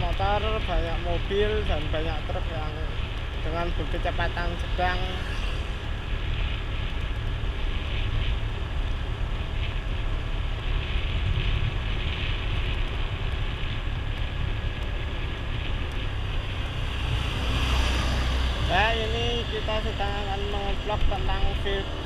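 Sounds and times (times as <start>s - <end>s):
road and engine noise: 0.0s - 22.0s
wind rumble on microphone: 0.0s - 22.0s.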